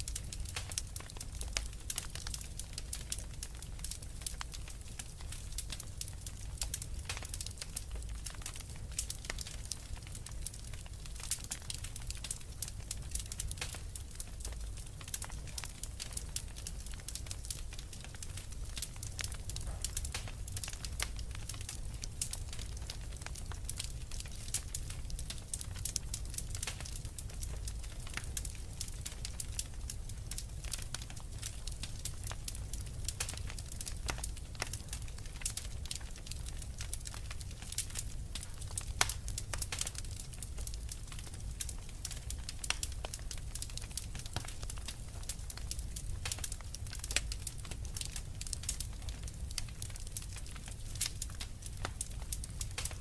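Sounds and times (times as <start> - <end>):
sharp pops and snaps of fire: 0.0 - 53.0
wood fire crackling: 0.0 - 53.0.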